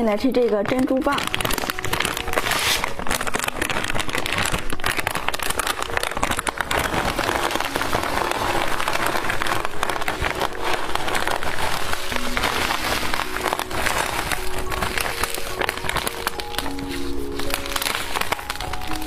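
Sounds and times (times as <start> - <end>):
plastic wrapper crinkling: 0.0 - 19.0.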